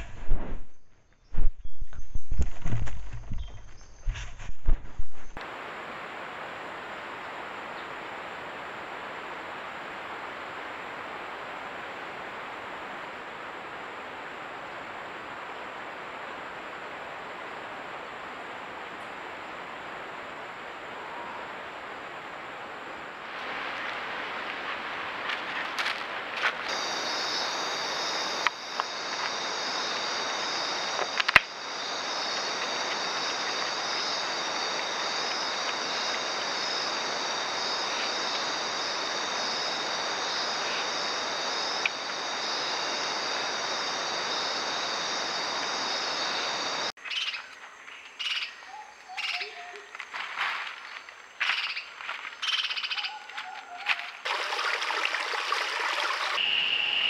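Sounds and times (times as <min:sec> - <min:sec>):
insects trilling at night: 0:05.6 - 0:57.0.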